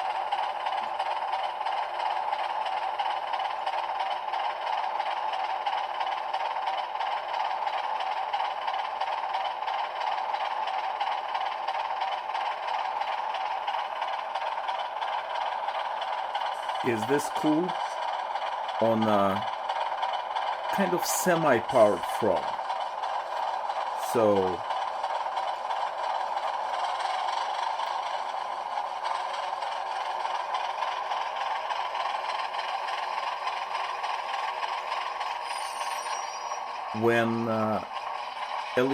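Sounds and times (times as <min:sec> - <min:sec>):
thin model diesel engine sound: 0:00.0 - 0:38.9.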